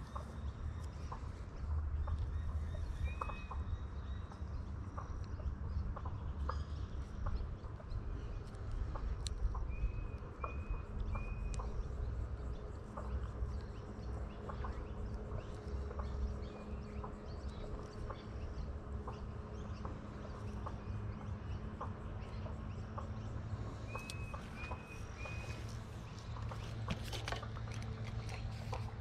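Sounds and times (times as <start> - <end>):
birds calling: 0.0 - 29.0
steady low rumble: 0.0 - 29.0.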